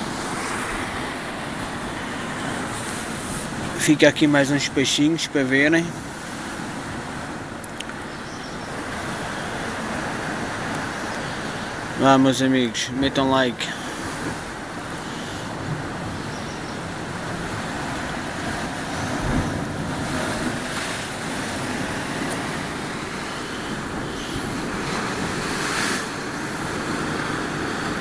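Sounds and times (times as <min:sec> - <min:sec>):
surf washing against rocks: 0:00.0 - 0:28.0.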